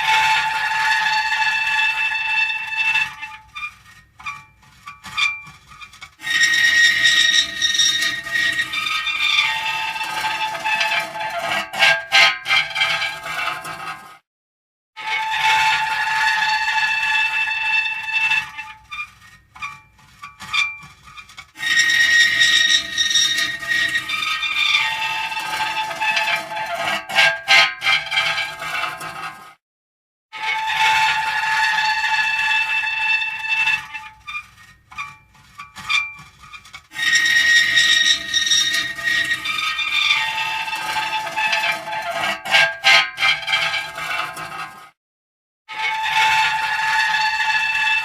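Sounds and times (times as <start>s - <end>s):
metal creaking: 0.0s - 14.0s, 15.4s - 29.4s, 30.6s - 44.8s
short metal squeaks: 0.0s - 14.0s, 15.0s - 29.4s, 30.4s - 44.8s.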